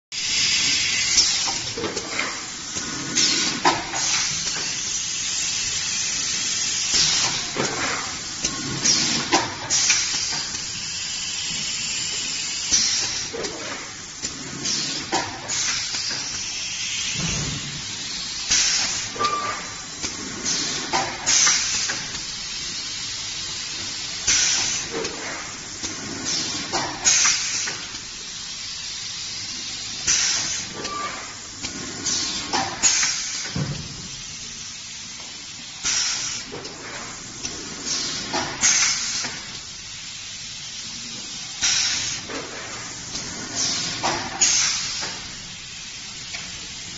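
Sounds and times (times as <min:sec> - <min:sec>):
compressed air hissing: 0:00.2 - 0:46.9.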